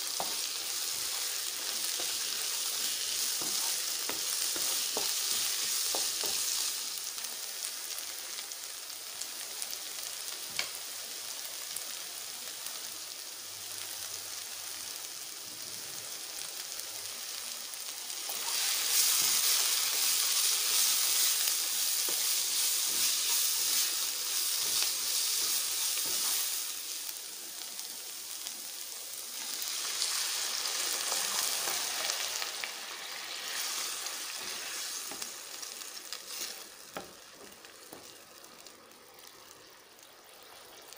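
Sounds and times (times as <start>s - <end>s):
vegetables sizzling in oil: 0.0s - 40.9s.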